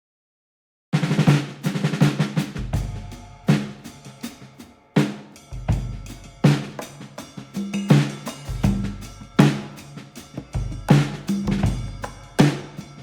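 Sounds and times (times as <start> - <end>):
drum kit music: 1.0 - 13.0.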